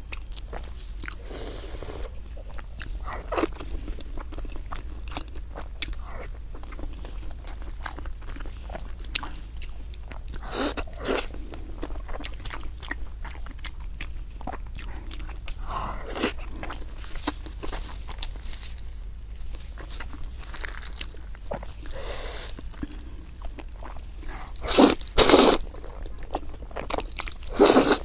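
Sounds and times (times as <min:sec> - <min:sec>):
person chewing and crunching: 0:00.0 - 0:28.0
steady low hum: 0:00.0 - 0:28.0.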